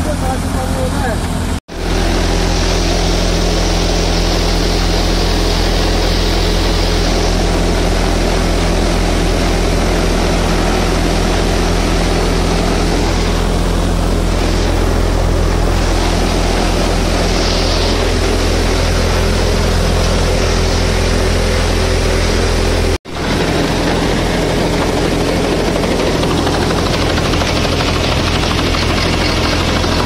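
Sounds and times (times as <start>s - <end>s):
tractor engine and thresher drone: 0.0s - 30.0s.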